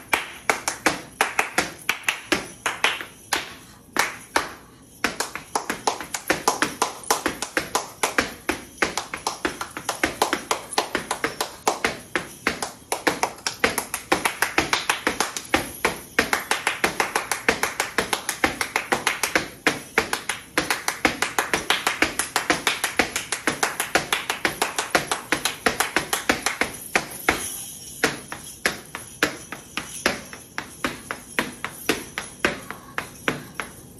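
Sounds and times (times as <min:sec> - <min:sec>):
rhythmic hand-clapping: 0:00.0 - 0:33.9.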